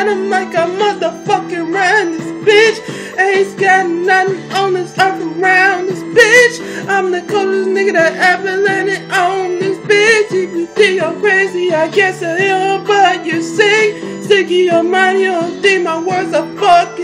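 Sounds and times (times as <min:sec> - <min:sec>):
man singing with vibrato: 0:00.0 - 0:17.0.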